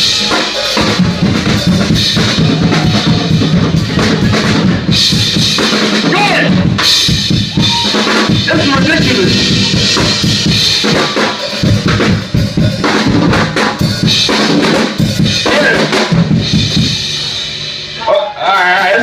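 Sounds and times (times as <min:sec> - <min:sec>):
drum kit groove: 0:00.0 - 0:19.0.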